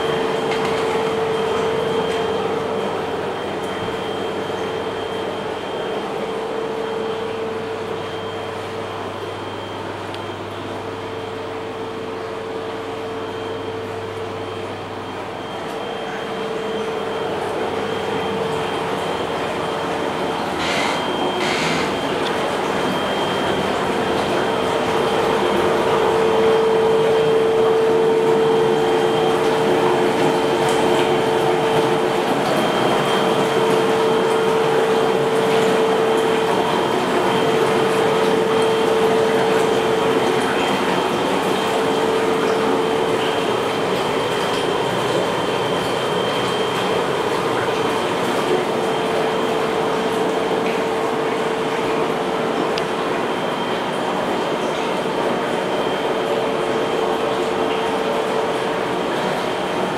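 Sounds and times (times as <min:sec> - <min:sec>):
bubbling water from jets: 0:00.0 - 0:59.9
pump humming: 0:00.0 - 0:59.9.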